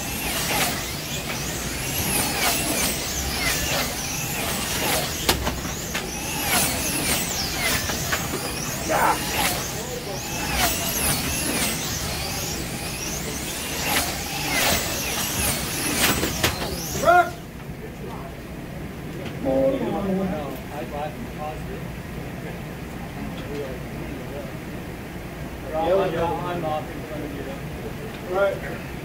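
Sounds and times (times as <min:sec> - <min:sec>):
slot car motors whining: 0:00.0 - 0:29.0.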